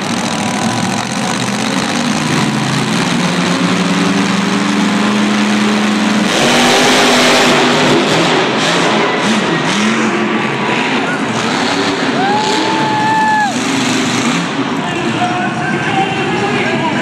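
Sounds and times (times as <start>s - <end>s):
arena noise: 0.0s - 17.0s
truck engine revving: 0.0s - 17.0s.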